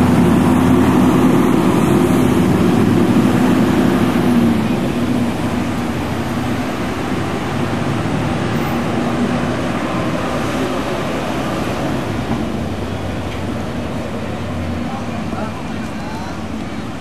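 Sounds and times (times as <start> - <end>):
water noise: 0.0 - 17.0.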